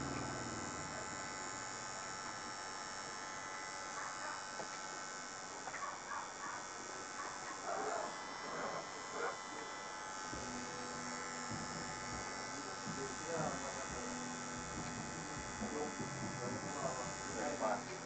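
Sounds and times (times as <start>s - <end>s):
tattoo machine buzzing: 0.0s - 18.0s.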